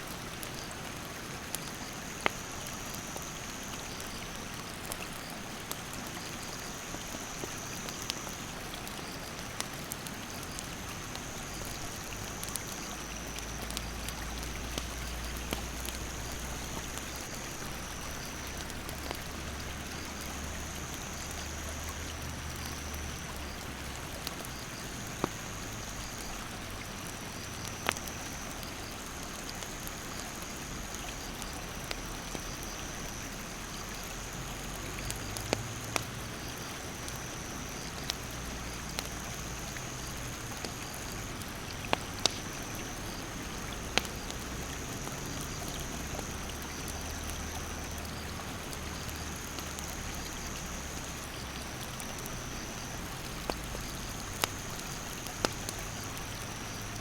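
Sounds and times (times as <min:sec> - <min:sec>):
campfire crackling and popping: 0:00.0 - 0:57.0
rushing mountain stream: 0:00.0 - 0:57.0.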